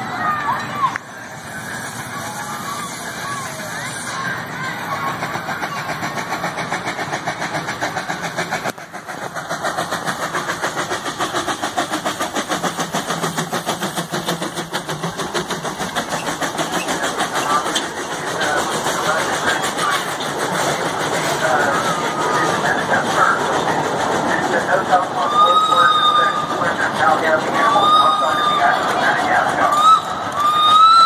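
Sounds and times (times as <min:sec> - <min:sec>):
steam locomotive chuffing: 0:00.0 - 0:31.0.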